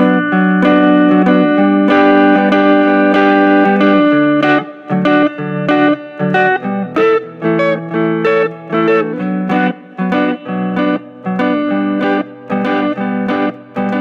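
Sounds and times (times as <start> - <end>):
guitar picking a melody: 0.0 - 14.0.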